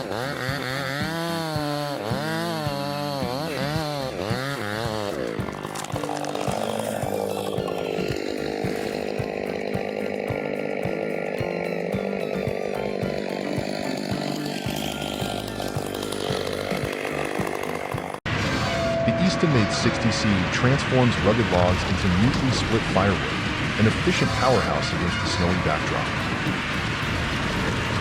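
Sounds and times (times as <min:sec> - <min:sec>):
chainsaw cutting wood: 0:00.0 - 0:18.4, 0:19.5 - 0:28.0.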